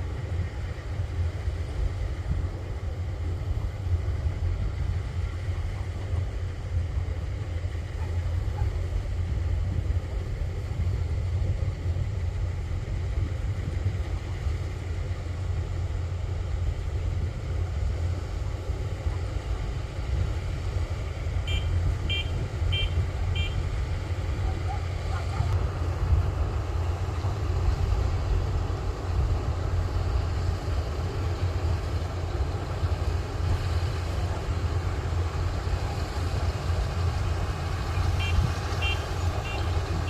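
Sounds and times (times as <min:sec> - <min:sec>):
combine harvester engine droning: 0:00.0 - 0:40.0.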